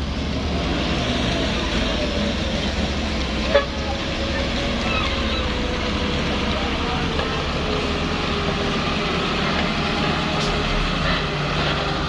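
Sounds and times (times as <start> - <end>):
heavy truck engine running: 0.0 - 12.0.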